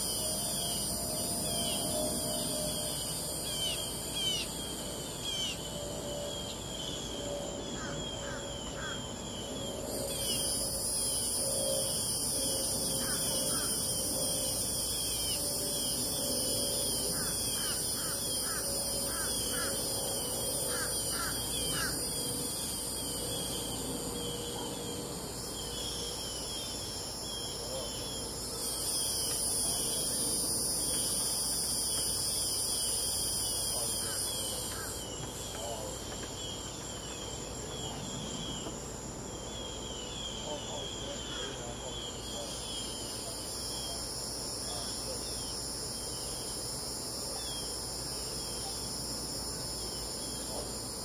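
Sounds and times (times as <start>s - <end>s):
crickets trilling: 0.0s - 51.0s.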